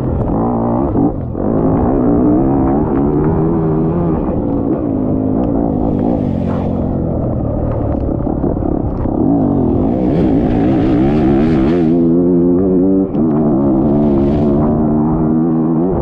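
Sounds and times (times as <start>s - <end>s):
race engine revving: 0.0s - 16.0s.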